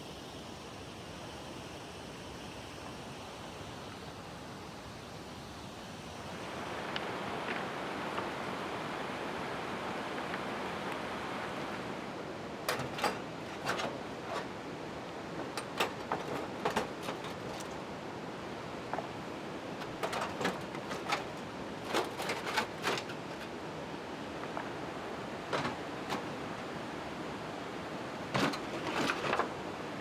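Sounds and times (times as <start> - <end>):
steady rain: 0.3 - 30.0.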